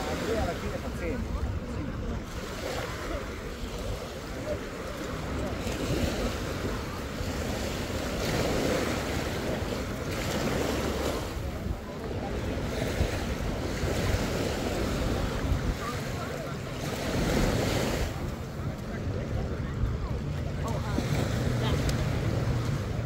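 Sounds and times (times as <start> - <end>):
waves washing onto beach: 0.0 - 23.0
wind rumbling on microphone: 0.0 - 23.0.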